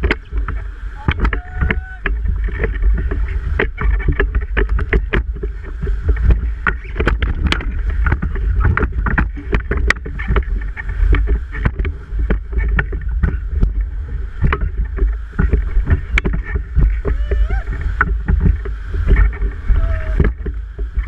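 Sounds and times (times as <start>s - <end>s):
rapids rushing and splashing: 0.0s - 21.0s
sharp splashes and knocks: 0.0s - 21.0s
wind buffeting microphone: 0.0s - 21.0s.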